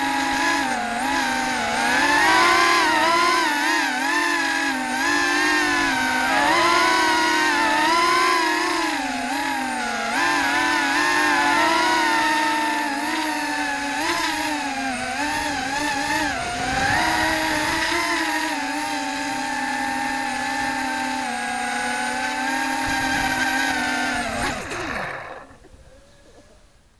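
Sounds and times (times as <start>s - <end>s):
quadcopter motors whining: 0.0s - 26.6s.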